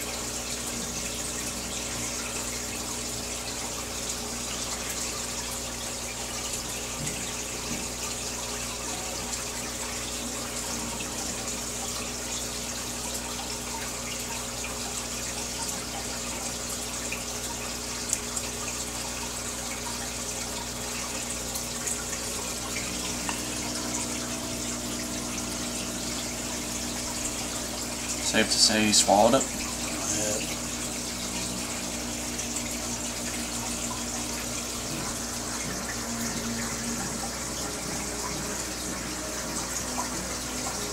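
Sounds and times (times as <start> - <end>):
aquarium water bubbling: 0.0 - 40.9.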